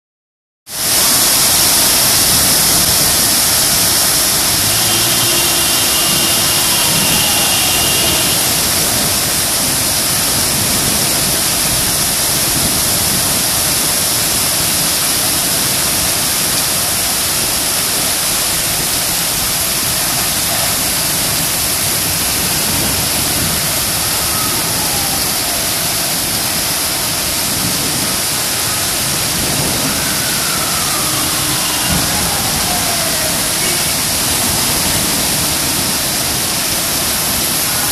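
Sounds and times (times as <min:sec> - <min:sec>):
heavy rain falling: 0:00.7 - 0:37.9.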